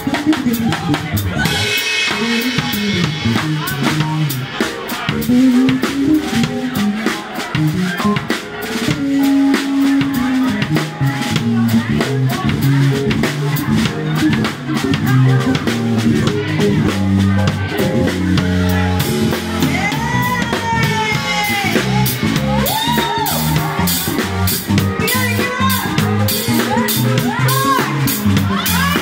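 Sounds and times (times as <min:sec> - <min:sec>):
bass guitar line: 0:00.0 - 0:29.0
drum kit beat: 0:00.0 - 0:29.0.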